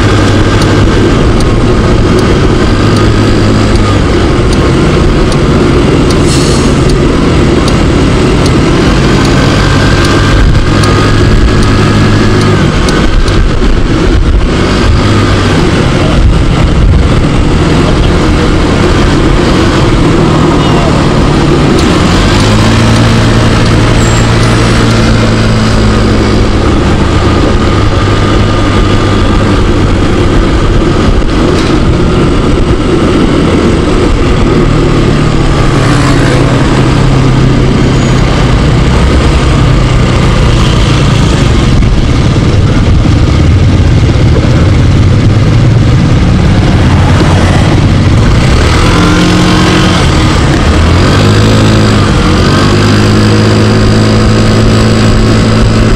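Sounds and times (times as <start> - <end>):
wind and road noise: 0.0 - 55.9.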